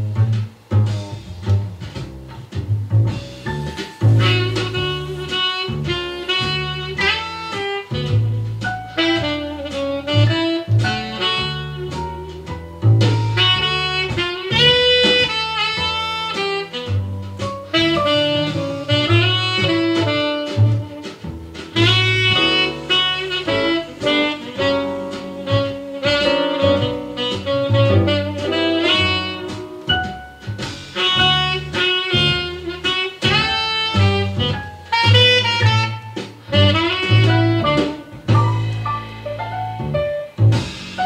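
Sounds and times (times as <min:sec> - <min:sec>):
bass line: 0:00.0 - 0:41.0
saxophone: 0:03.6 - 0:41.0.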